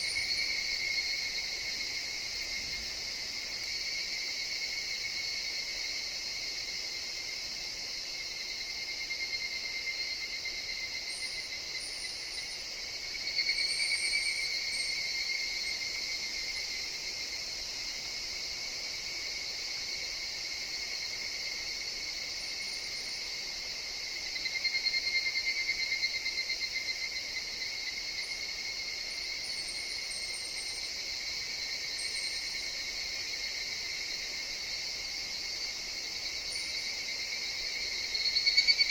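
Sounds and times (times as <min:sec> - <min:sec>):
cicadas trilling: 0:00.0 - 0:38.9.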